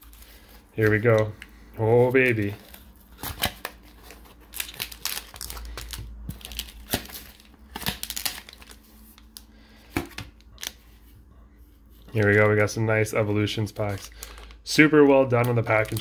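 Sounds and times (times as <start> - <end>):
plastic sleeve crinkling: 0.0 - 10.9, 12.0 - 16.0.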